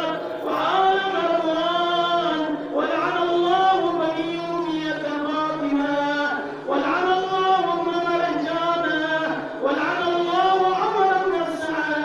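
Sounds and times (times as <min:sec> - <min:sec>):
men chanting a mourning lament: 0:00.0 - 0:12.0.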